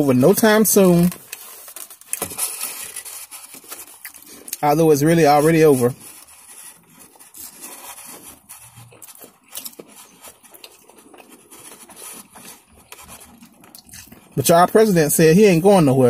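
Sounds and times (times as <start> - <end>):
person chewing crunchy food: 0.0 - 14.5.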